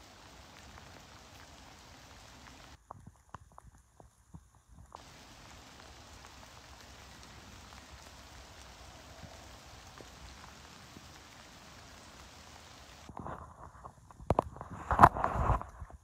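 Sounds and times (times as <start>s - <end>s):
raindrop ticks: 0.0s - 13.3s
light rain on water: 0.0s - 15.8s.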